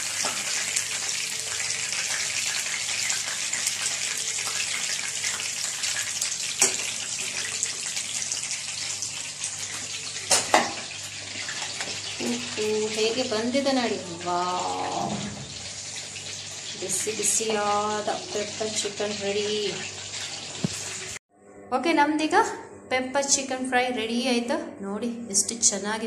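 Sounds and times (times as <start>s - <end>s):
chicken deep-frying in hot oil: 0.0s - 21.2s.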